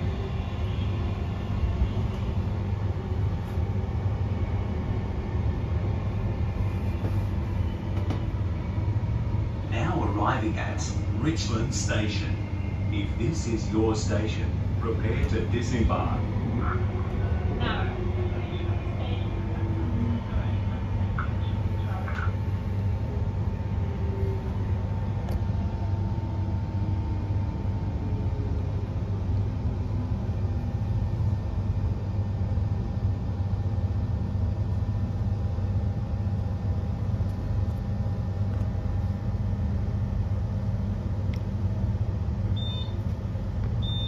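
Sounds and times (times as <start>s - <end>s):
electric traction drive whine: 0.0s - 44.0s
train interior rumble: 0.0s - 44.0s.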